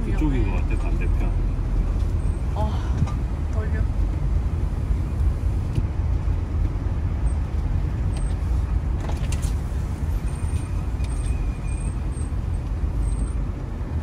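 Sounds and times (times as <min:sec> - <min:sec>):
engine and tyre rumble: 0:00.0 - 0:14.0.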